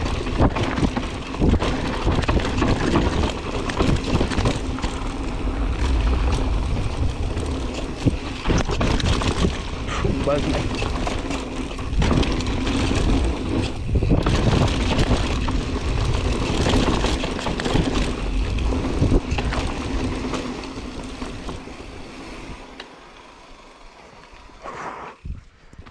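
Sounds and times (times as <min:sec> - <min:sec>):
bike chain and frame rattling: 0:00.0 - 0:24.6
bike tyres rolling over dirt: 0:00.0 - 0:25.9.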